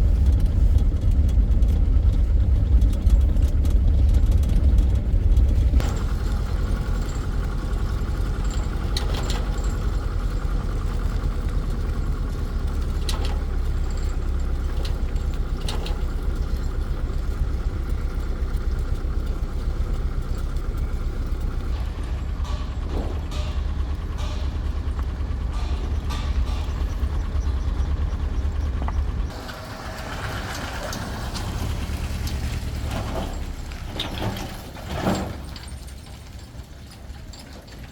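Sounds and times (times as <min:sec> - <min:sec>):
engine rumbling: 0:00.0 - 0:37.9.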